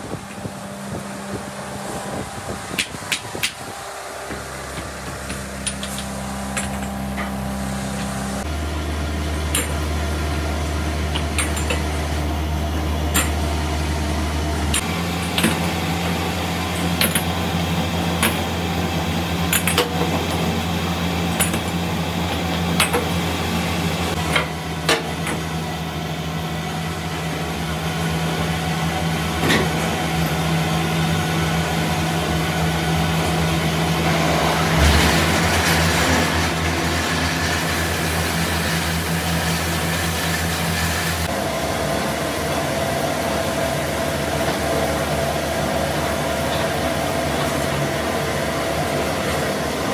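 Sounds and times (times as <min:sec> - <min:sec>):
workshop machinery hum: 0:00.0 - 0:49.9.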